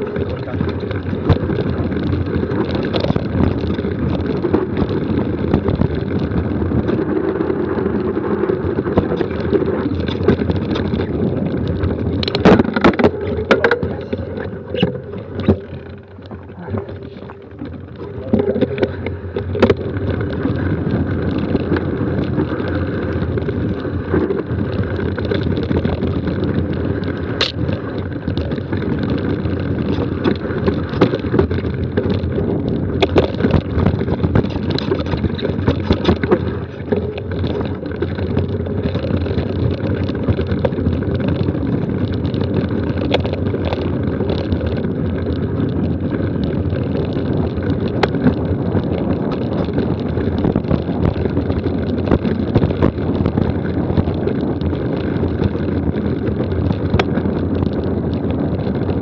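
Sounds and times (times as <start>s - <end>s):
bike tyre and frame rattle: 0.0s - 59.0s
wheels knocking on rocks: 0.0s - 59.0s
wind rush on microphone: 0.0s - 59.0s.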